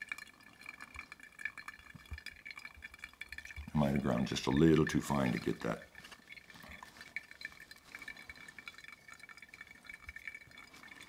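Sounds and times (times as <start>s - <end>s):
coffee trickling and dripping: 0.0s - 11.0s.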